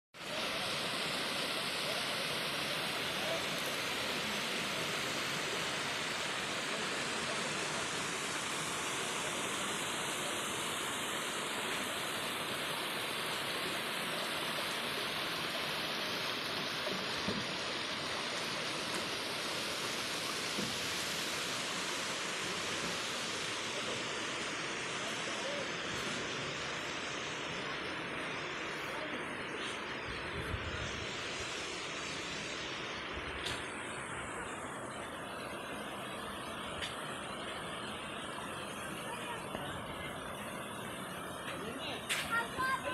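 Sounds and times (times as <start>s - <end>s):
waterfall and stream rushing: 0.2s - 42.9s.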